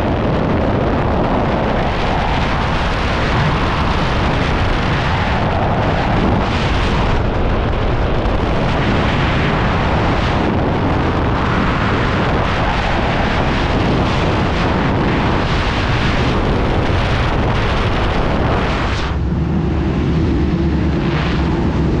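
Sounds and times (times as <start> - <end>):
low hum: 0.0 - 22.0
wind rushing over microphone: 0.0 - 22.0.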